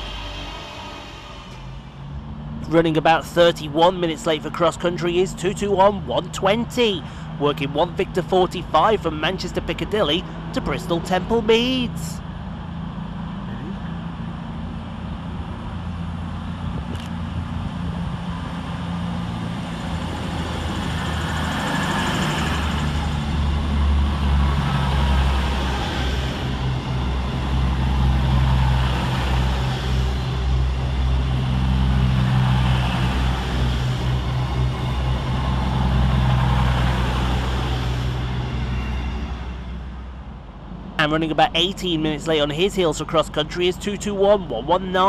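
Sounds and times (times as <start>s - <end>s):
wheel and rail noise: 0.0s - 44.7s
diesel engine drone: 0.0s - 45.0s.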